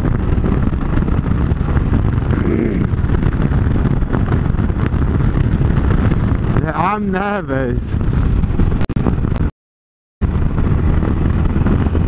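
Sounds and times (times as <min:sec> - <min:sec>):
motorcycle engine drone: 0:00.0 - 0:09.5, 0:10.2 - 0:12.0
wind on microphone: 0:00.0 - 0:09.5, 0:10.2 - 0:12.0.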